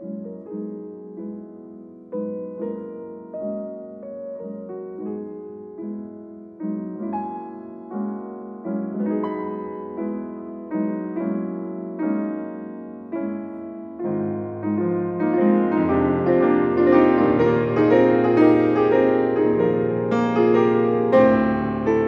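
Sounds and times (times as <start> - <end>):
slow solo piano piece: 0.0 - 22.0.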